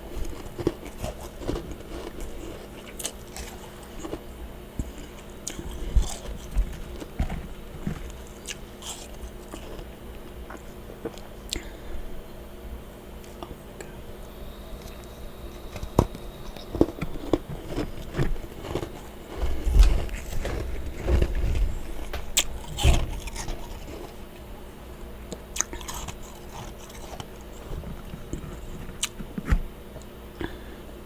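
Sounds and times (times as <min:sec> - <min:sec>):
crunching and chewing frost: 0:00.0 - 0:12.4, 0:13.2 - 0:30.7
low background hum: 0:00.0 - 0:31.0.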